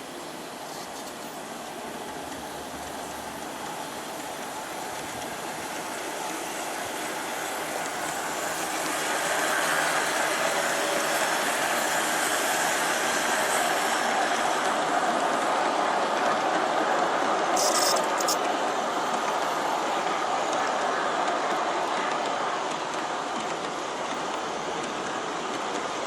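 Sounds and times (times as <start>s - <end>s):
model train wheels rumbling: 0.0s - 26.0s.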